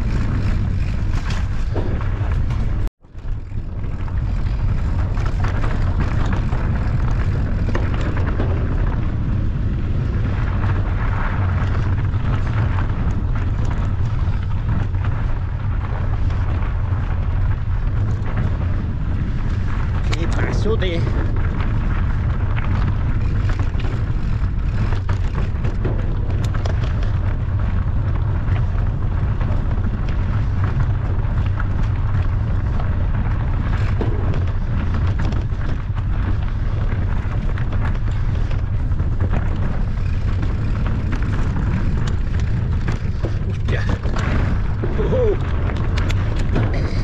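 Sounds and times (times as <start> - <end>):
bike clicks and rattles: 0.0 - 47.0
wind rumble on microphone: 0.0 - 47.0.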